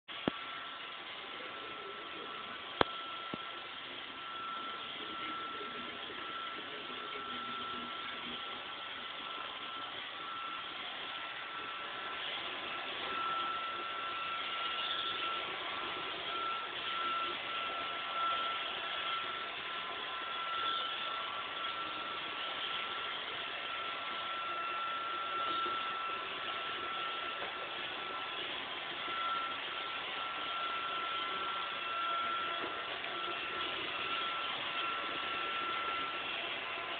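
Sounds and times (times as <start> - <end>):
high whine: 0.1 - 36.9
robot vacuum whirring: 0.2 - 36.9.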